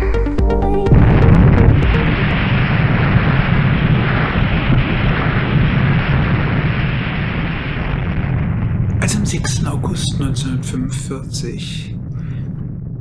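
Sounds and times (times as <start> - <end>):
explosion rumble: 0.0 - 13.0.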